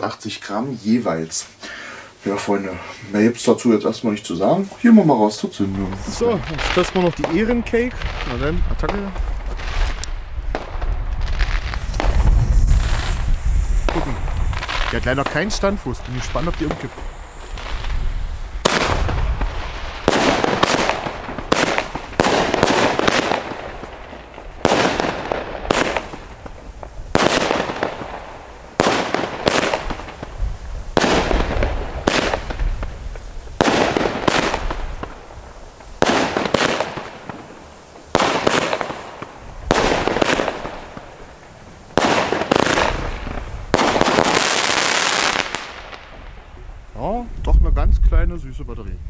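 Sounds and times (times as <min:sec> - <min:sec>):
firework bangs: 0:05.2 - 0:46.9.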